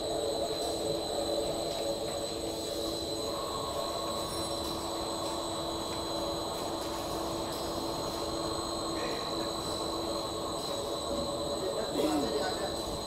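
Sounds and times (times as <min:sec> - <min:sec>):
high machine whine: 0:00.0 - 0:13.0
machinery drone: 0:00.0 - 0:13.0.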